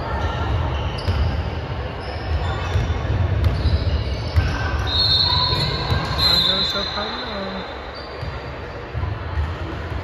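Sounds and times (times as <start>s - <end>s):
shoe squeak: 0.2s - 8.5s.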